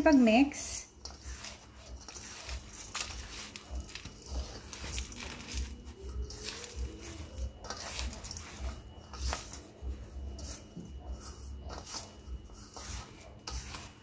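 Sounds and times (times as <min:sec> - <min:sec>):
spatula squishing and scraping dough: 0:00.0 - 0:14.0.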